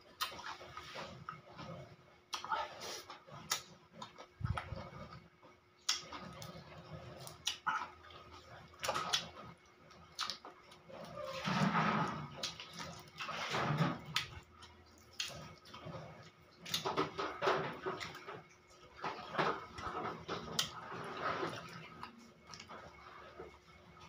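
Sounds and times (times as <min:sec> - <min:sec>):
wet chewing and slurping: 0:00.0 - 0:24.0.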